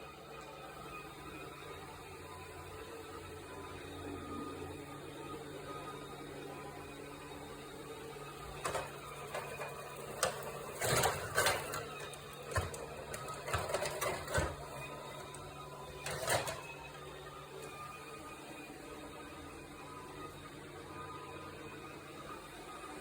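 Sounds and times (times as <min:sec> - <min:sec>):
robot vacuum motor hum: 0:00.0 - 0:23.0.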